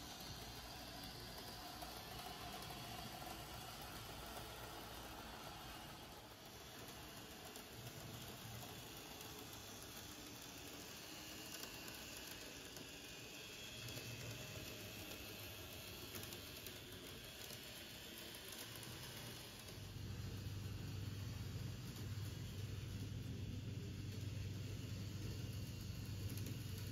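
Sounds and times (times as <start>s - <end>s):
model train whirr and hiss: 0.0s - 26.9s.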